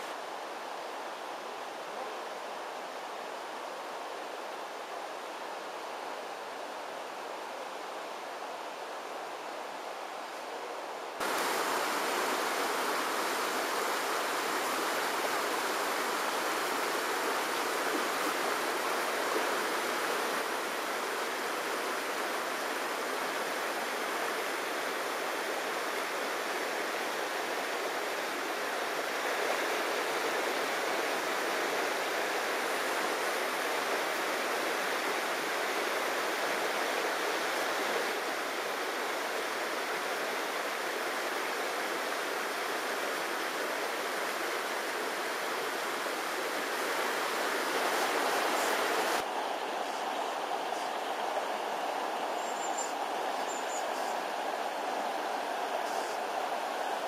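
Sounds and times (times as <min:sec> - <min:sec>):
river running over rocks: 0:00.0 - 0:57.0.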